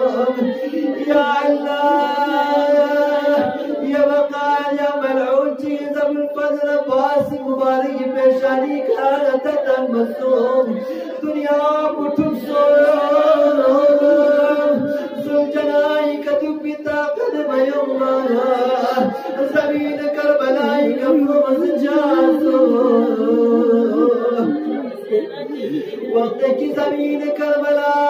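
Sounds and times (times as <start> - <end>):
man chanting a lament: 0.0 - 28.0.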